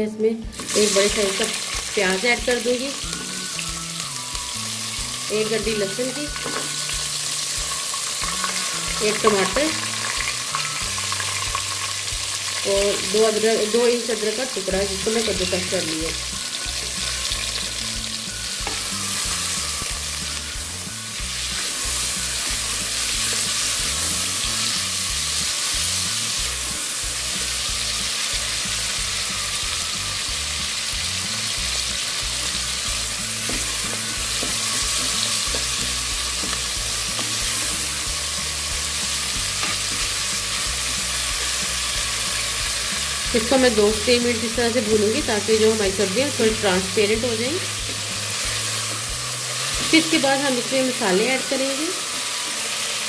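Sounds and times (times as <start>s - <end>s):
vegetables sizzling in hot oil: 0.4s - 53.0s.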